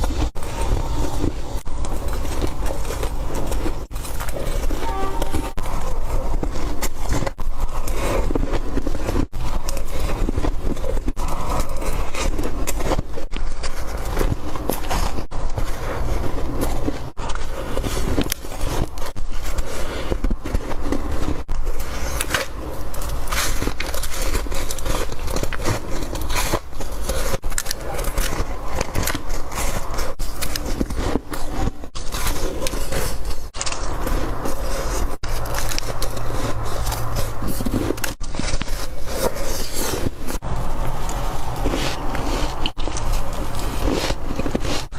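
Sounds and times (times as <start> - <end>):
ice being chewed: 0.0 - 44.9.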